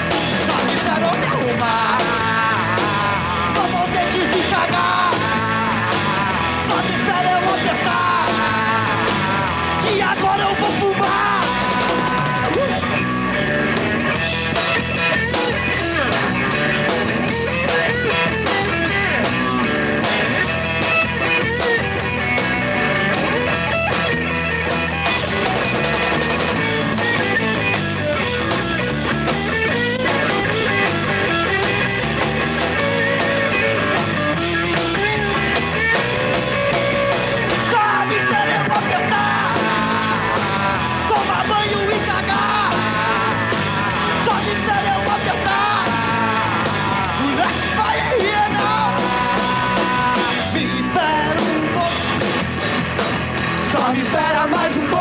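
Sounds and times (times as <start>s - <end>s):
bass and drums: 0.0s - 55.0s
electric guitar with bends: 0.0s - 55.0s.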